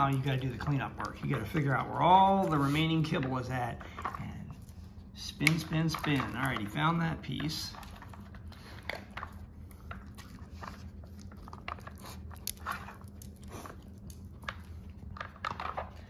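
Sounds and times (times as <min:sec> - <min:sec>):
dog crunching dry kibble: 0:00.0 - 0:16.0.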